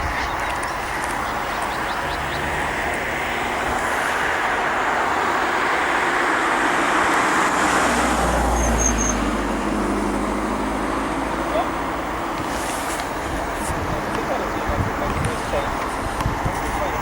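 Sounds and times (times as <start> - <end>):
passing vehicle rushing: 0.0 - 17.0.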